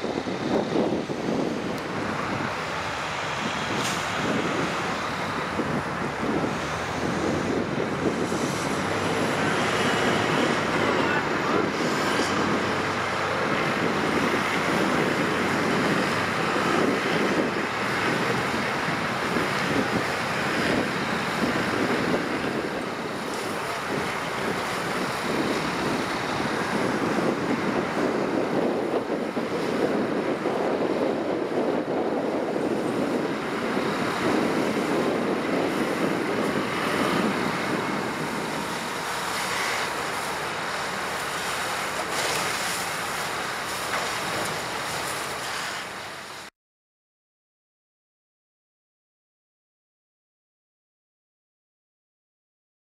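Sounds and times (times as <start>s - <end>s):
highway traffic rushing past: 0.0s - 46.5s.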